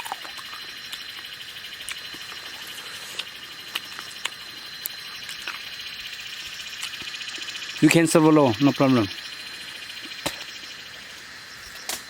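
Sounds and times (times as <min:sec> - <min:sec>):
thin high tone: 0:00.0 - 0:11.7
insects trilling: 0:00.0 - 0:12.0.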